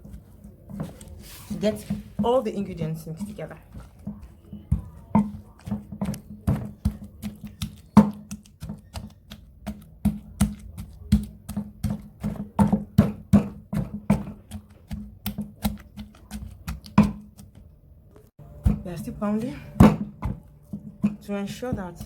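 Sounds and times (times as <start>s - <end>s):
pestle pounding in a mortar: 0.0s - 17.7s, 18.4s - 22.0s.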